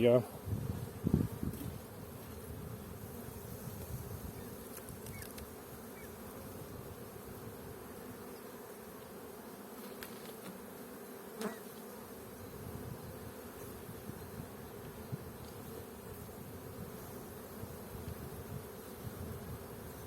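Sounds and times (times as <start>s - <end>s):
honeybee colony humming: 0.0s - 20.0s.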